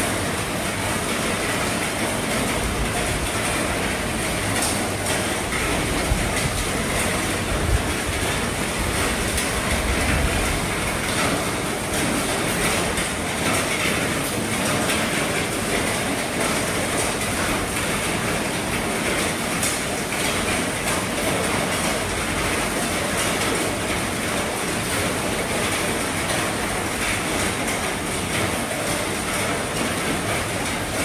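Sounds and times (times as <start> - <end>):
heavy rain on a vehicle roof: 0.0 - 31.0.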